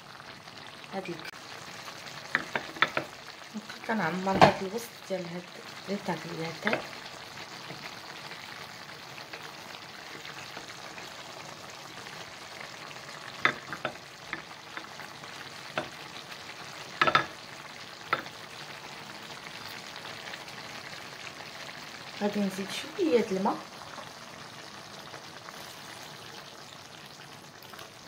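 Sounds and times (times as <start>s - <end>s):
sauce sizzling in a frying pan: 0.0s - 28.0s.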